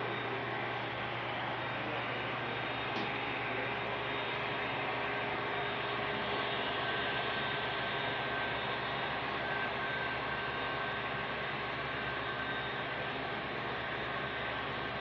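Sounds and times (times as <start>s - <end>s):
model train diesel engine hum: 0.0s - 15.0s.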